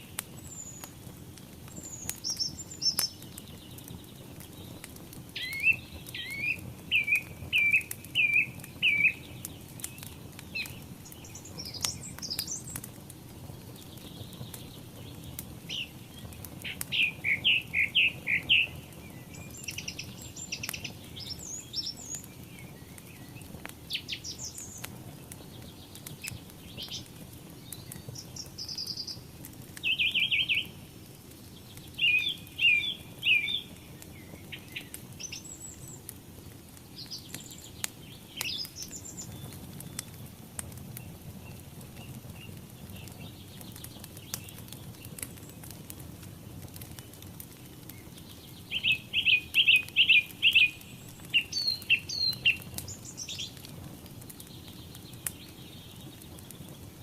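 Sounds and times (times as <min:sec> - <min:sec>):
songbirds singing: 0:00.0 - 0:57.0
wood fire crackling: 0:00.0 - 0:57.0.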